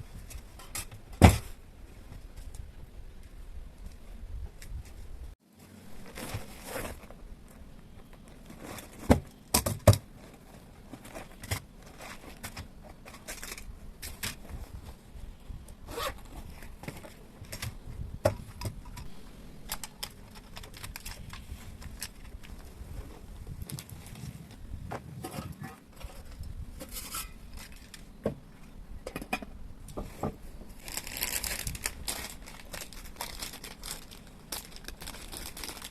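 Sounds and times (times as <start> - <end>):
rustling and scraping: 0.0 - 35.9.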